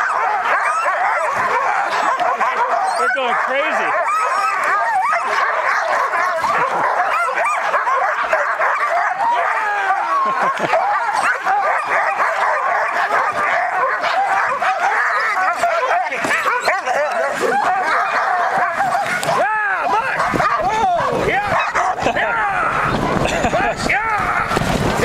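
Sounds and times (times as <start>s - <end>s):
sled dogs barking and yipping: 0.0s - 25.0s.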